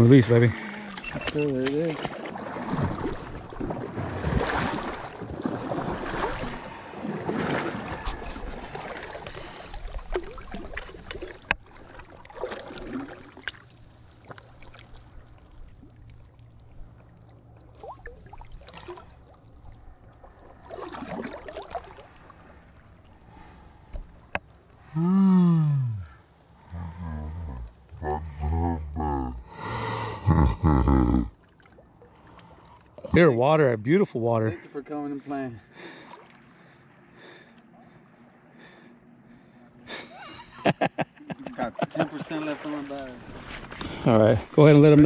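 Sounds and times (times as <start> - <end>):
lake water sloshing and splashing: 0.0 - 24.9, 31.2 - 45.0.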